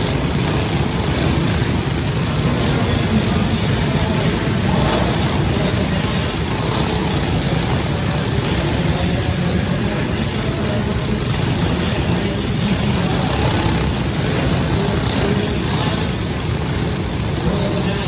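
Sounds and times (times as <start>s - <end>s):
go-kart engines idling: 0.0s - 18.0s.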